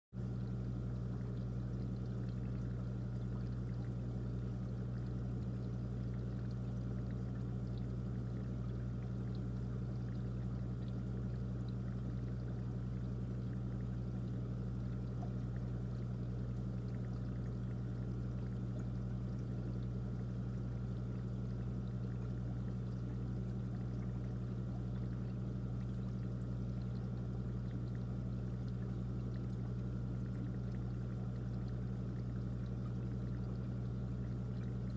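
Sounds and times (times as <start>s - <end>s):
aquarium pump humming: 0.2s - 34.9s
faint water trickle: 0.2s - 34.9s.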